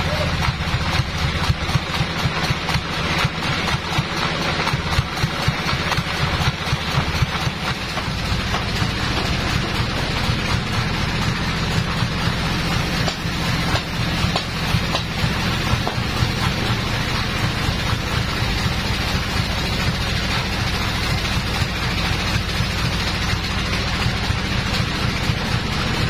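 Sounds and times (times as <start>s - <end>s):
engine idling low hum: 0.0s - 26.0s
knocks and clatter: 0.0s - 26.0s.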